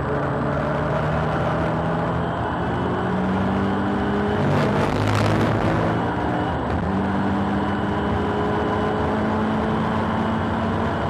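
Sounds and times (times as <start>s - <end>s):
turbocharged car engine interior: 0.0s - 11.0s.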